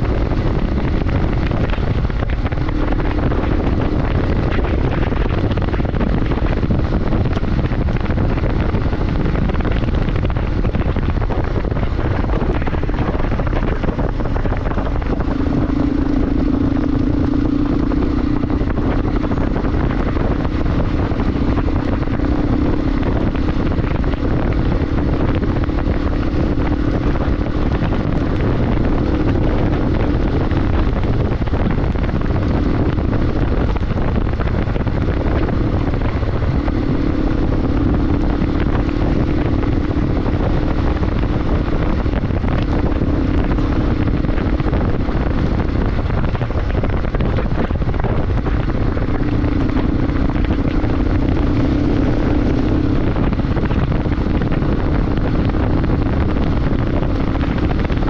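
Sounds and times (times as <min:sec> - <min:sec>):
low rushing noise: 0:00.0 - 0:58.0
motorcycle engine hum: 0:00.0 - 0:58.0.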